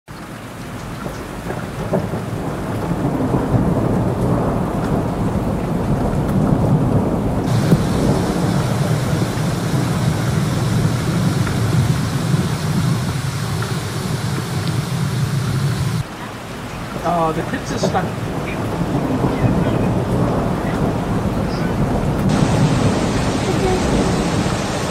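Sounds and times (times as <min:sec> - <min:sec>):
heavy rain: 0:00.1 - 0:24.9
rushing floodwater: 0:00.1 - 0:24.9.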